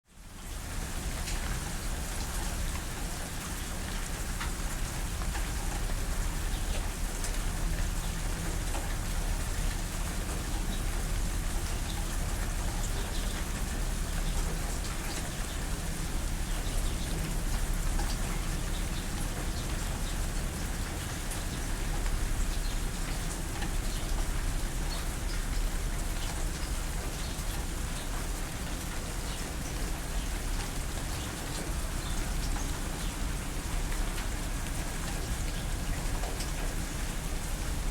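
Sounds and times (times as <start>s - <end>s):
rain falling: 0.1s - 37.9s
raindrops ticking on a surface: 0.1s - 37.9s.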